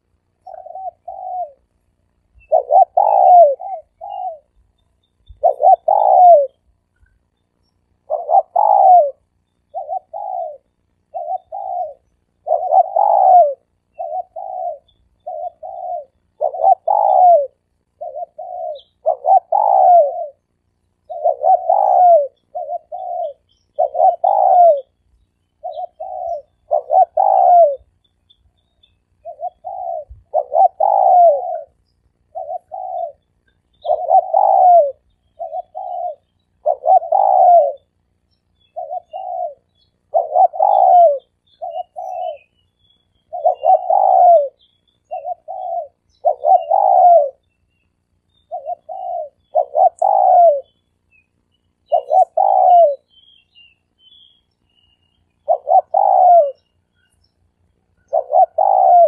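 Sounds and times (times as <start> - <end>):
dove cooing: 0.0 - 28.0, 29.0 - 42.6, 43.2 - 50.8, 51.8 - 53.2, 54.1 - 57.0, 57.9 - 59.0.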